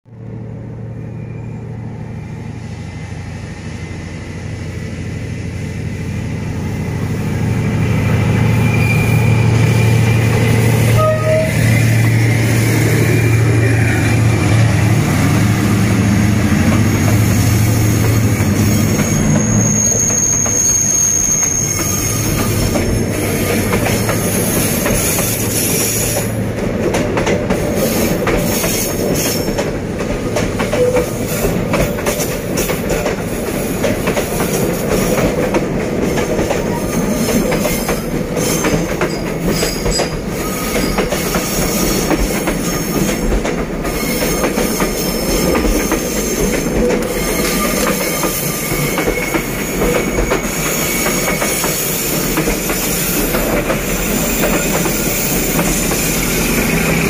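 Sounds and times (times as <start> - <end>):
diesel locomotive engine drone: 0.0 - 57.0
wheels squealing on rails: 0.8 - 57.0.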